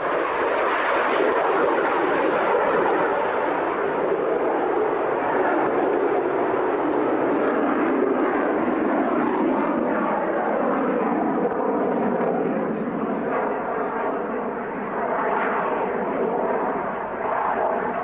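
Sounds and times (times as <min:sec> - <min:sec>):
jet aircraft flying overhead: 0:00.0 - 0:18.0.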